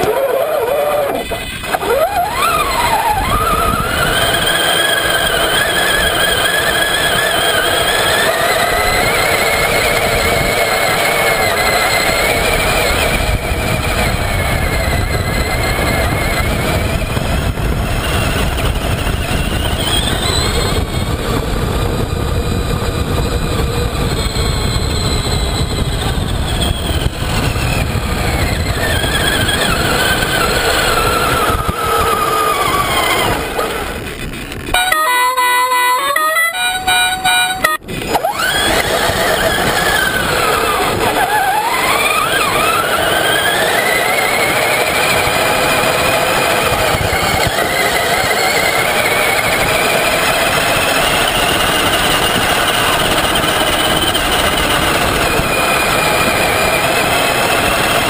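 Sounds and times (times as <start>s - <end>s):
toy truck electric motor whining: 0.0s - 58.0s.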